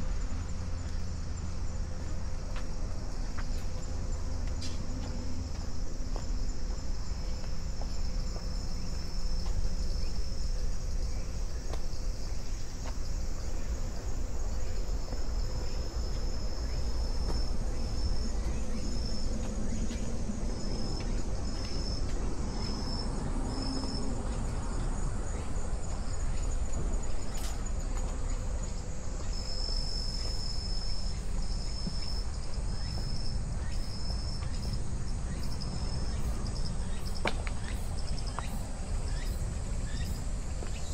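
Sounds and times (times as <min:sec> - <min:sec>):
insects chirping: 0:00.0 - 0:40.9
steady low rumble: 0:00.0 - 0:40.9.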